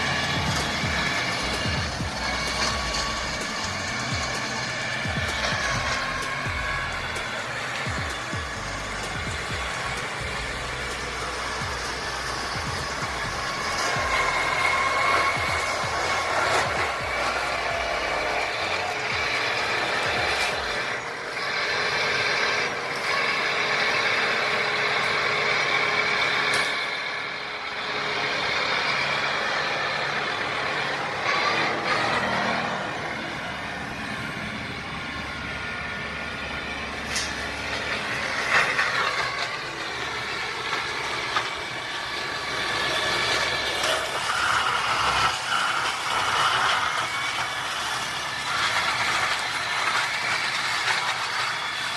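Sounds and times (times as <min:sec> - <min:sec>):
brush clearing machine engine: 0:00.0 - 0:51.9
whining tones: 0:00.0 - 0:51.9.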